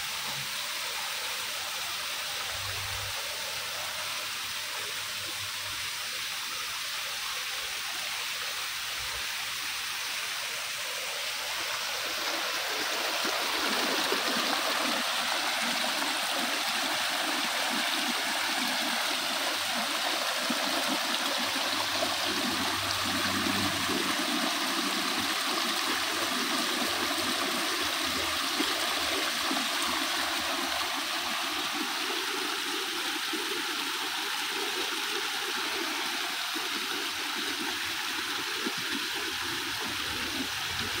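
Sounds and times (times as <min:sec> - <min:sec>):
water cascading over rocks: 0:00.0 - 0:41.0.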